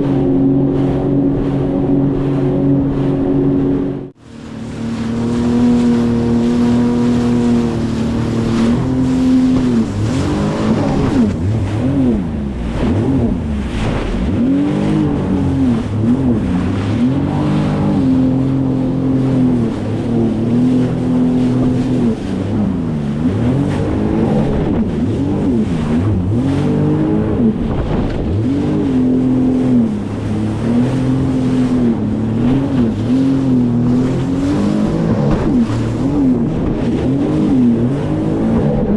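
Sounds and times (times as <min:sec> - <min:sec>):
personal watercraft engine running: 0:00.0 - 0:38.9.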